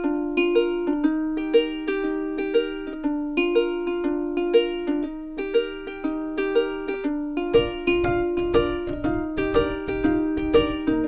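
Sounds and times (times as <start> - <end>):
plucked-string tune: 0.0 - 11.0.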